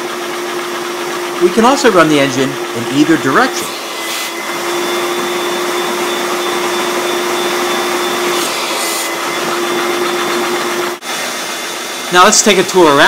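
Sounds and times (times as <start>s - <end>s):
wooden air engine running: 0.0s - 11.0s
shop vac whining: 0.0s - 13.0s.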